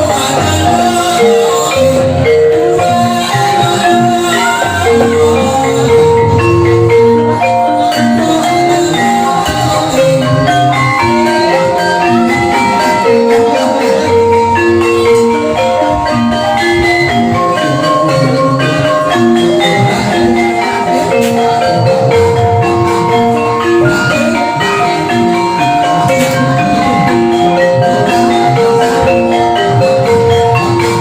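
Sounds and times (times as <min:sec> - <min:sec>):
gamelan ensemble playing: 0:00.0 - 0:31.0.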